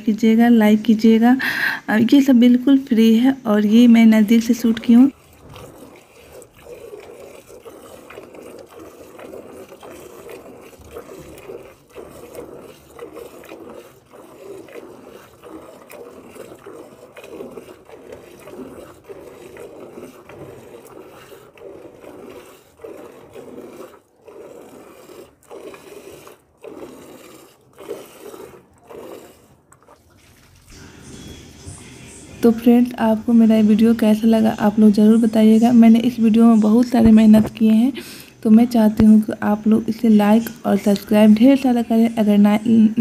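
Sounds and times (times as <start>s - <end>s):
milk squirting into a bucket: 0.0s - 43.0s.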